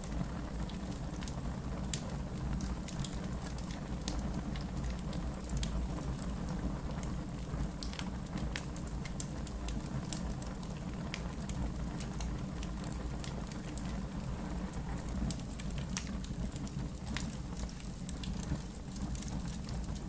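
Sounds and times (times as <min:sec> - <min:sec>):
burning logs crackling and popping: 0:00.0 - 0:20.0
fire flames rumbling: 0:00.0 - 0:20.0.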